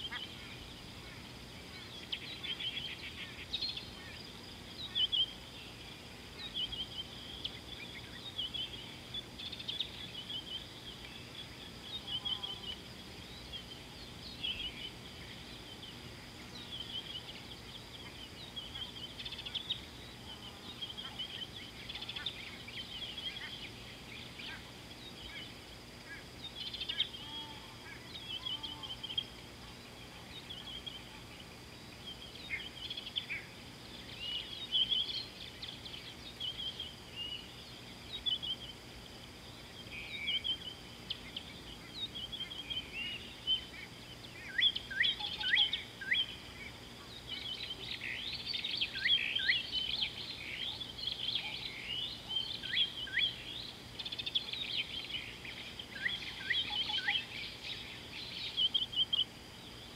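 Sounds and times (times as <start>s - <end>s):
birds chirping and singing: 0.0s - 38.9s, 39.5s - 59.9s
faint background hiss: 0.0s - 59.9s.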